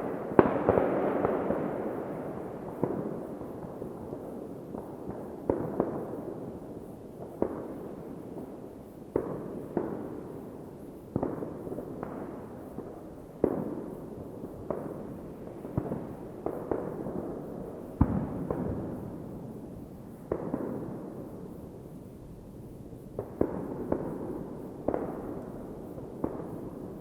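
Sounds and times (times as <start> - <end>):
fireworks bangs with rolling echo: 0.0 - 27.0.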